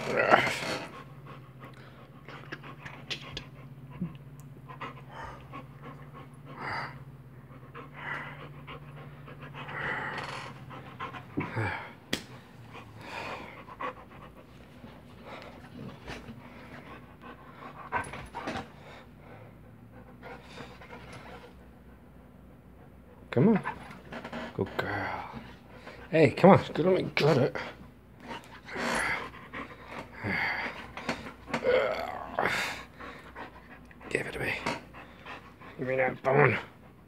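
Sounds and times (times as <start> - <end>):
steady low hum: 0.0 - 37.0
puppy panting: 0.6 - 31.6, 32.4 - 37.0.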